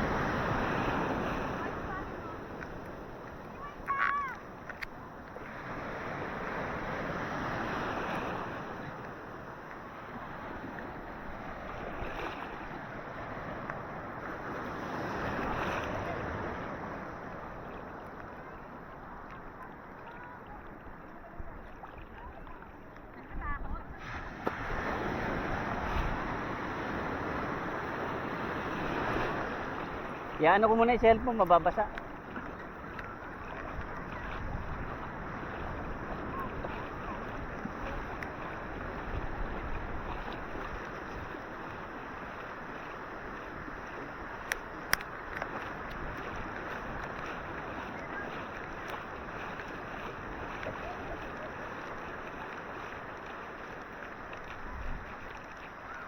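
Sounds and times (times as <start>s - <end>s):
ocean waves washing on beach: 0.0s - 56.0s.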